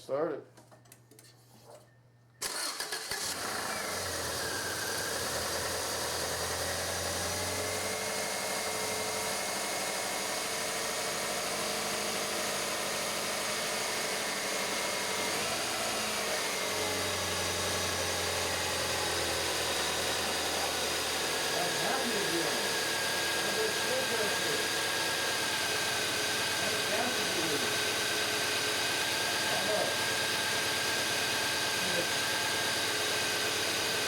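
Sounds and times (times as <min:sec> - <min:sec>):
car engine cranking and idling: 0:02.4 - 0:34.0.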